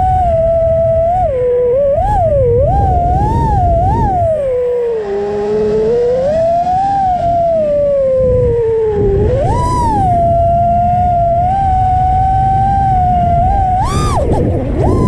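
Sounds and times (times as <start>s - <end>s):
drone motors whining: 0.0s - 15.0s
low rushing noise: 0.0s - 15.0s.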